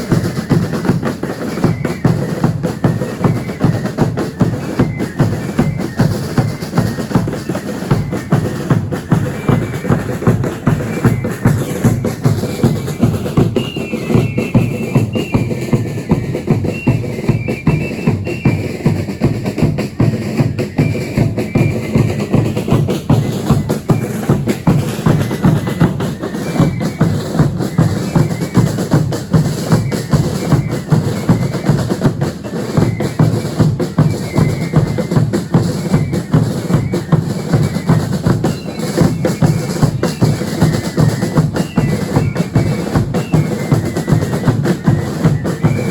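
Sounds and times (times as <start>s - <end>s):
snare drum rolls: 0.0s - 45.9s.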